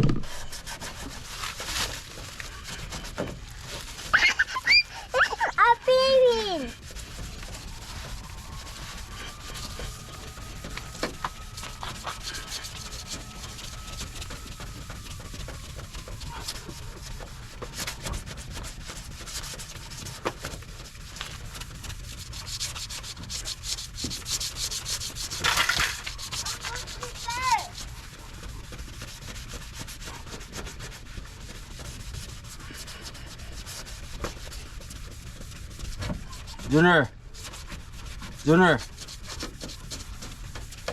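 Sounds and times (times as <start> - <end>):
sandpaper scrubbing on plastic: 0.2 - 40.9.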